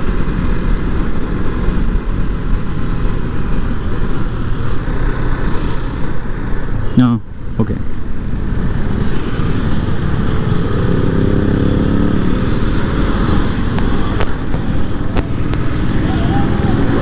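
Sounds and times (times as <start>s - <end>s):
motorcycle engines running: 0.0s - 17.0s
wind noise: 0.0s - 17.0s.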